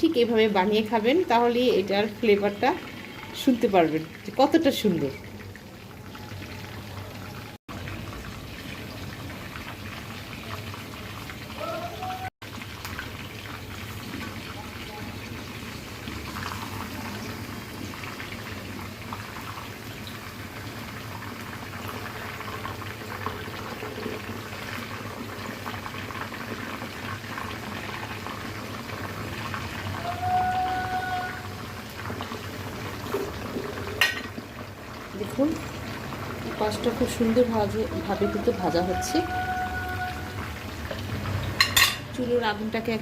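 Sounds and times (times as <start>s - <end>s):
oil sizzling and crackling: 0.0s - 43.0s.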